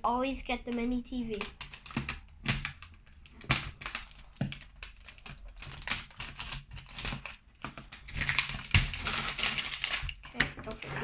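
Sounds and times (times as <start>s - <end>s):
packaging crinkling and clicking: 0.7s - 10.9s.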